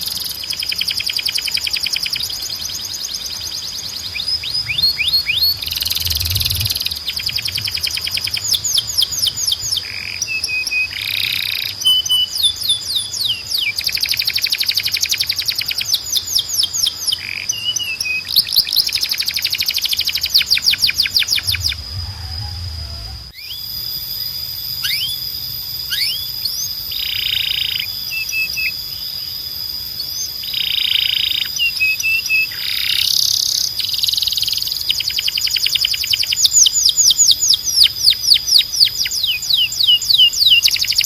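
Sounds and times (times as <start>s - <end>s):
canary singing trills: 0.0s - 41.0s
steady high-pitched whistle: 0.0s - 41.0s.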